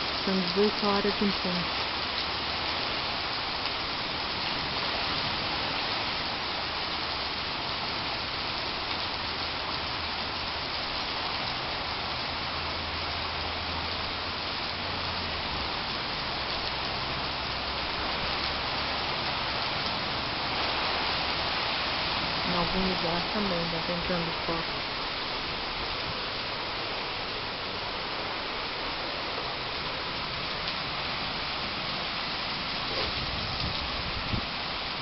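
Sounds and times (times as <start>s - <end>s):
rain on trees and plants: 0.0s - 35.0s.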